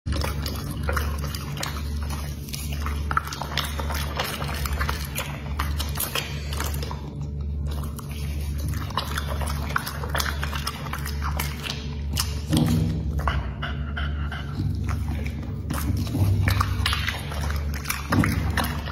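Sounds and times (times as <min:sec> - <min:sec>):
dog chewing and slurping: 0:00.0 - 0:18.9
low steady hum: 0:00.1 - 0:18.9.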